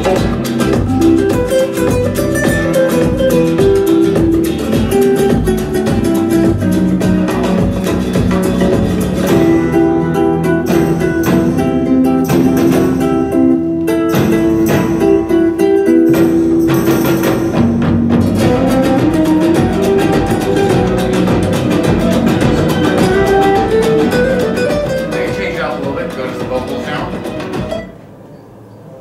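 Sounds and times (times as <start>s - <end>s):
plucked guitar music: 0.0s - 28.0s.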